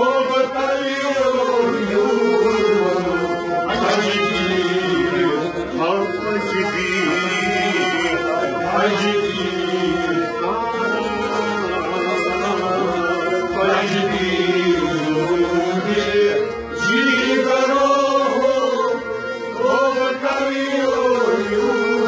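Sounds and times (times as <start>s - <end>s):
held instrumental drone: 0.0s - 22.0s
men chanting devotional song: 0.0s - 22.0s.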